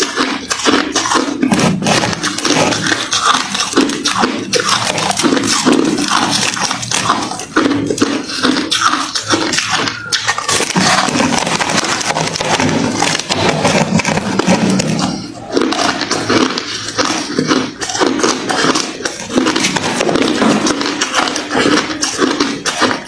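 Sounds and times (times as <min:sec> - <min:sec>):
crushed ice being chewed: 0:00.0 - 0:23.0.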